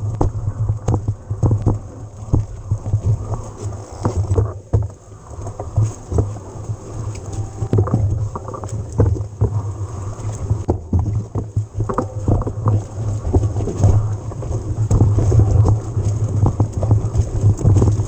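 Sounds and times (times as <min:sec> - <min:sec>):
bike knocking and rattling: 0:00.0 - 0:18.0
wind rumble on microphone: 0:00.0 - 0:18.0.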